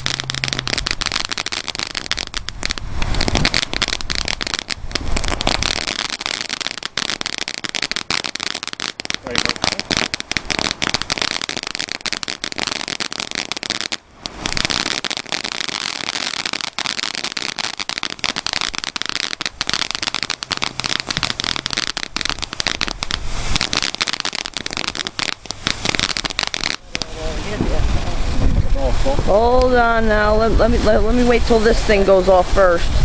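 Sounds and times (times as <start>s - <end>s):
fireworks crackling and popping: 0.0s - 33.0s.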